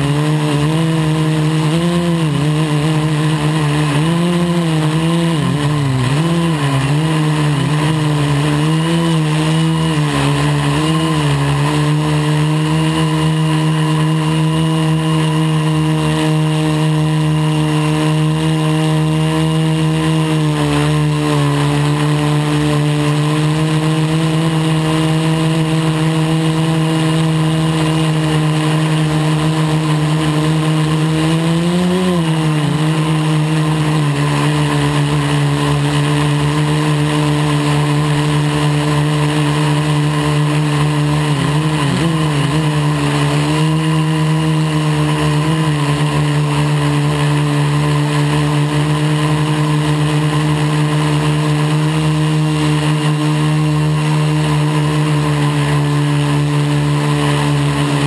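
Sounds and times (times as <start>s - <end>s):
quadcopter propellers buzzing: 0.0s - 58.0s.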